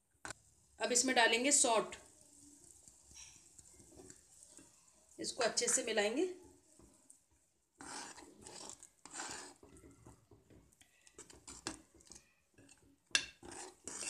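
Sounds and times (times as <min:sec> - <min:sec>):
metal spoon stirring thick syrup: 0:00.9 - 0:14.0.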